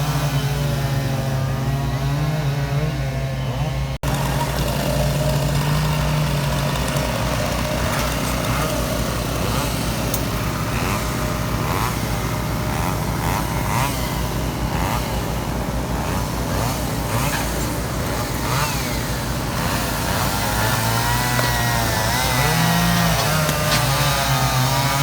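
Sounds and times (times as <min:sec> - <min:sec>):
chainsaw engines running: 0:00.0 - 0:25.0.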